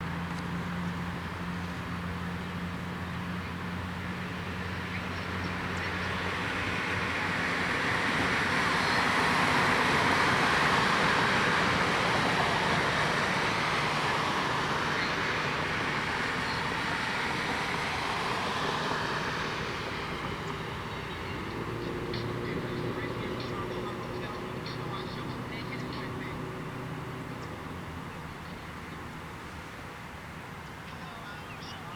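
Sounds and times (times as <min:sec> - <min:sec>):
rushing vehicle noise: 0:00.0 - 0:31.9.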